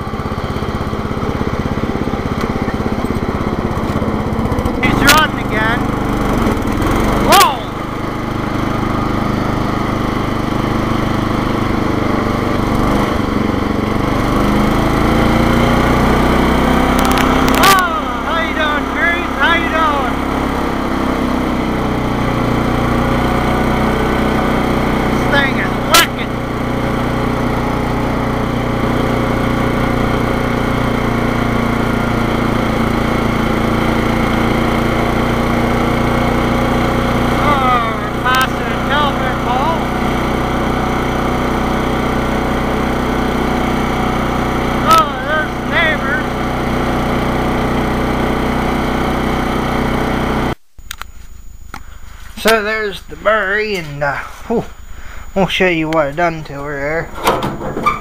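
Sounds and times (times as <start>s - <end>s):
riding mower engine running: 0.0s - 58.0s.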